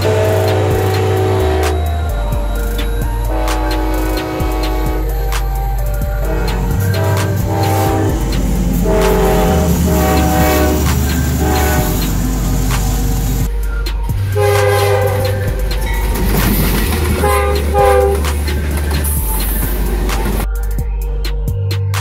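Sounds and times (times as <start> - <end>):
background music with chords: 0.0 - 22.0.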